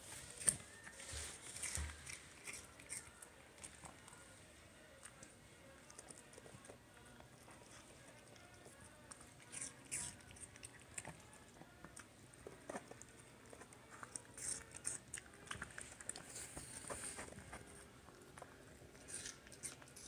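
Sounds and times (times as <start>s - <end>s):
dog crunching fruit: 0.2s - 4.3s, 4.9s - 20.0s.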